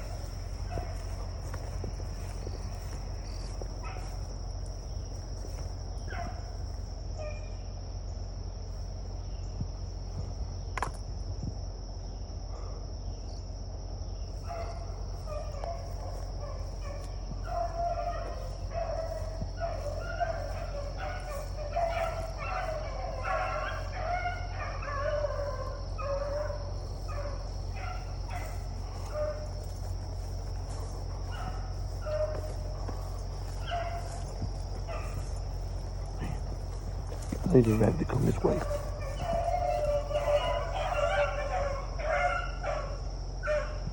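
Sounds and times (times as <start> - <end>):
dogs baying: 0.0 - 9.3, 12.4 - 13.0, 14.3 - 43.9
high insect drone: 0.0 - 43.9.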